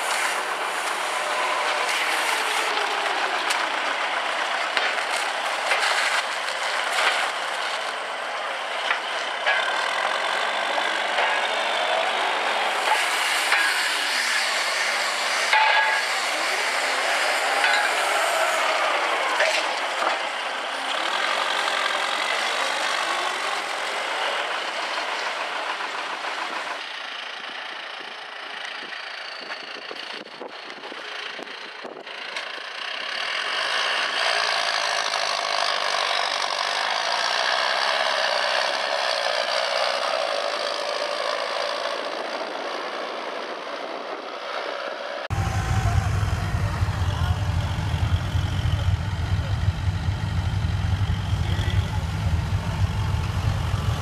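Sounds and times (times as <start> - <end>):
diesel farm machinery engines: 0.0 - 54.0.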